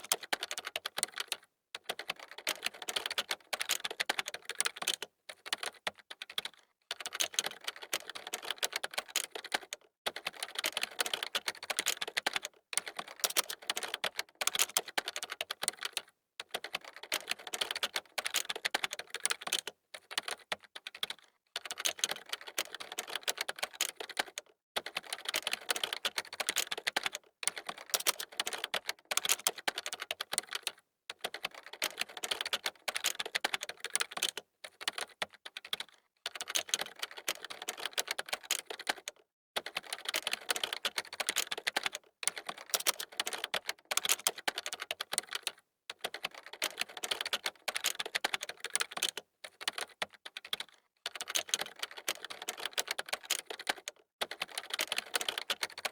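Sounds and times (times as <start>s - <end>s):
computer keyboard typing: 0.0s - 55.9s.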